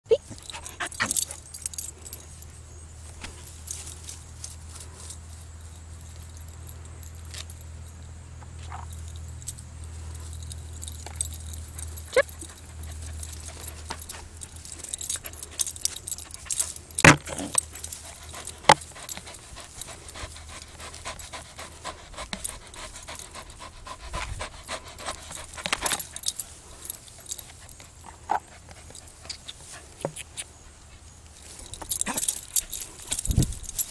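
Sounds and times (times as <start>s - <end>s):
metallic jingling: 0.1s - 29.8s, 31.3s - 33.9s
dog playing: 0.2s - 2.5s, 8.5s - 33.9s
clicks and rustles: 3.1s - 30.5s, 31.2s - 33.9s.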